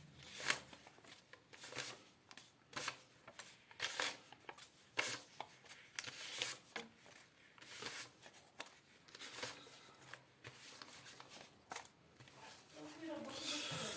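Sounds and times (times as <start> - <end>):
paper rustling: 0.2 - 13.4.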